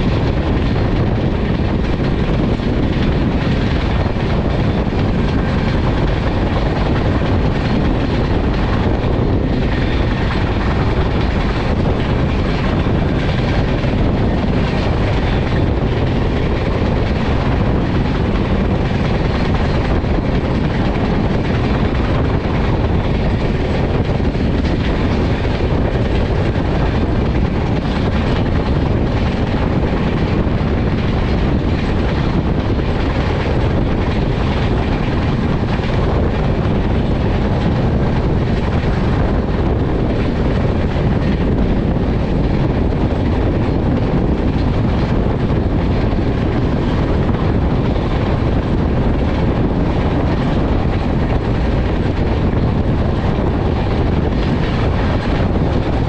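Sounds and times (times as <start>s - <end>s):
rushing air: 0.0s - 56.0s
train wheels rumbling on rails: 0.0s - 56.0s.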